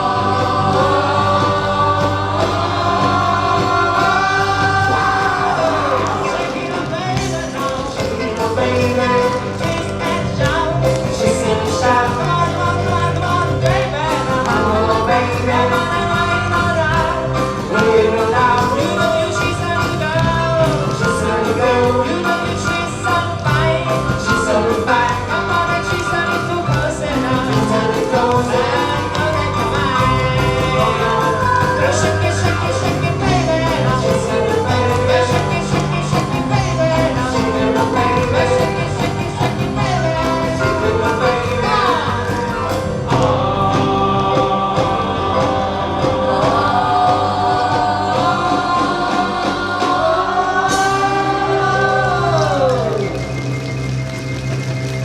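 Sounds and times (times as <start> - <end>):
person singing: 0.0 - 53.5
live rock and roll band: 0.0 - 55.0.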